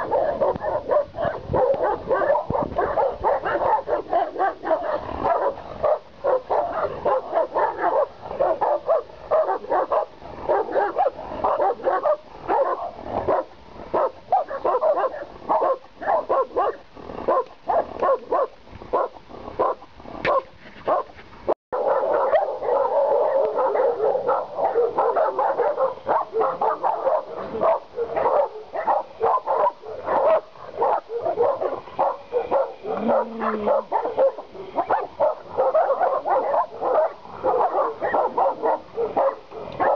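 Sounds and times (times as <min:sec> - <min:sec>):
dogs barking: 0:00.0 - 0:21.1, 0:21.8 - 0:39.9.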